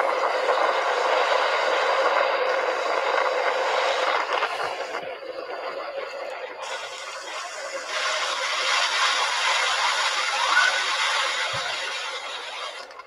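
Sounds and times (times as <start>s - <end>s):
driving rain: 0.0s - 5.0s, 5.6s - 13.0s
storm wind: 0.0s - 12.3s.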